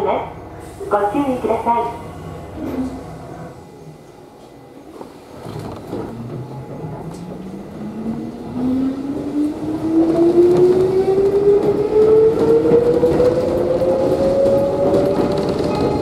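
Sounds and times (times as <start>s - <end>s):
train car rumble: 0.0s - 16.0s.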